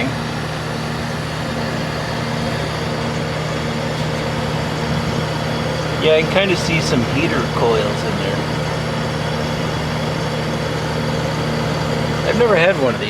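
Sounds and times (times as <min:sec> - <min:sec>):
compressor humming: 0:00.0 - 0:13.0
fan rushing: 0:00.0 - 0:13.0.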